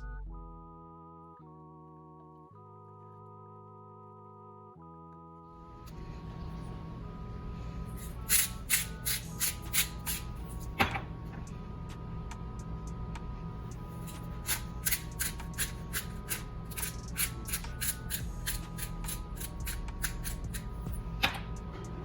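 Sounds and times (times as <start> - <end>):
quiet background music: 0.0 - 22.0.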